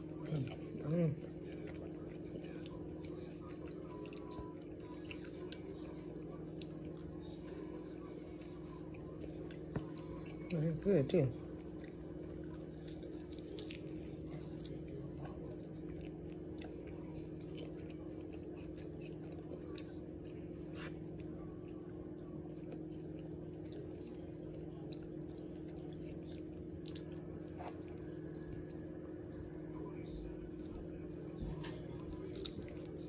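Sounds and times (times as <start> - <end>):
close-up chewing and biting: 0.0 - 33.0
low steady hum: 0.0 - 33.0.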